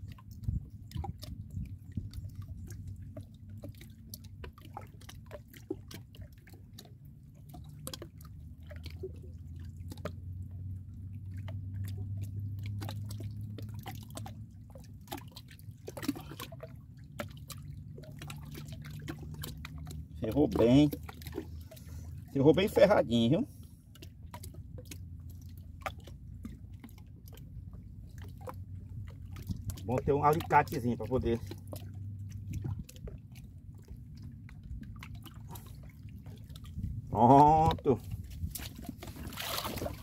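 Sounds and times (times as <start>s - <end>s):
low steady rumble: 0.0s - 40.0s
water dripping and lapping: 0.0s - 40.0s.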